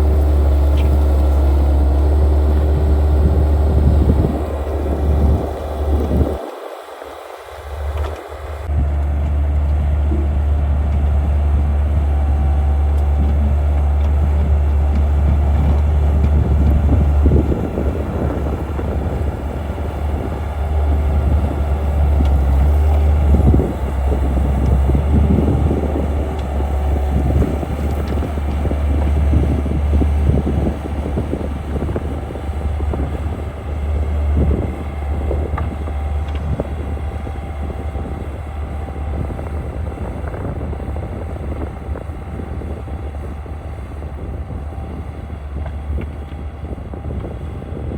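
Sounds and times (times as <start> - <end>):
skid steer engine running: 0.0 - 47.9.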